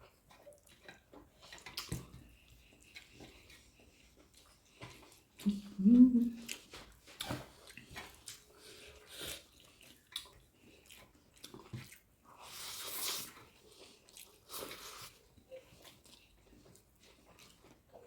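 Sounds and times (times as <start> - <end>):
chewing food: 0.0 - 18.0.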